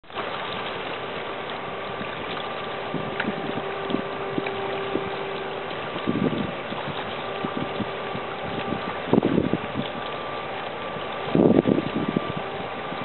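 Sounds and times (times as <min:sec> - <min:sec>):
ship engines droning: 0:00.1 - 0:13.0.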